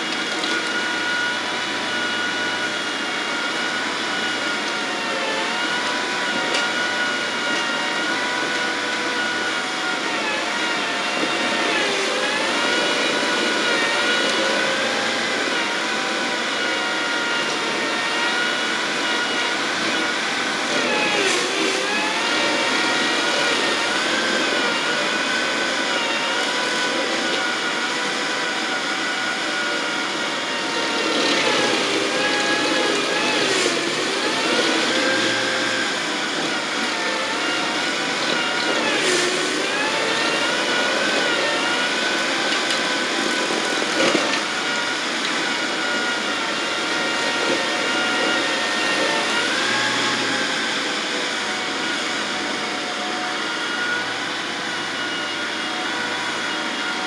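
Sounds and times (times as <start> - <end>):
machine engine running at high speed: 0.0 - 57.0.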